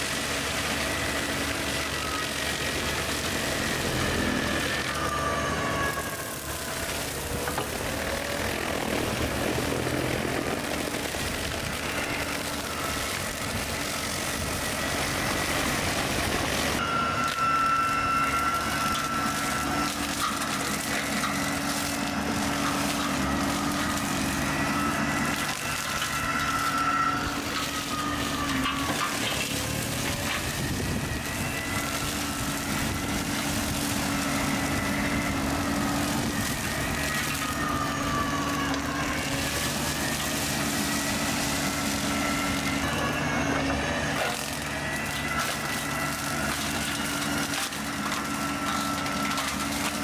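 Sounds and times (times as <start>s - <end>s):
brush cutter cutting grass: 0.0s - 50.0s
diesel engine running: 0.0s - 50.0s
steady whine: 0.0s - 50.0s.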